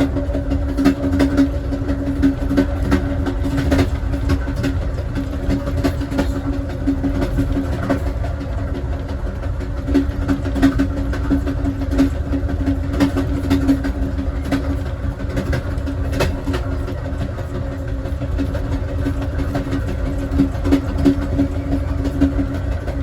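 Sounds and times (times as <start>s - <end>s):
passenger car rumbling on track: 0.0s - 23.0s
wheels clicking on rails: 0.0s - 23.0s.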